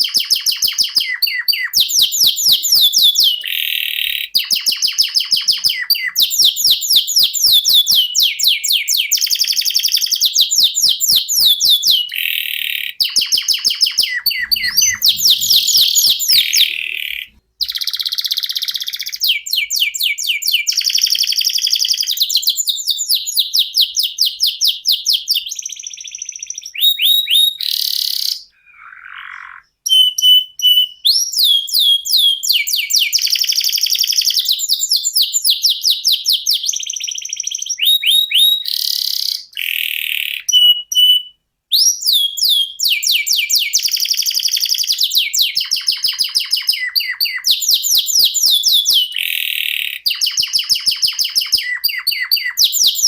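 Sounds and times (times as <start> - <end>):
canary singing trills: 0.0 - 23.1, 25.2 - 34.6, 36.4 - 53.0.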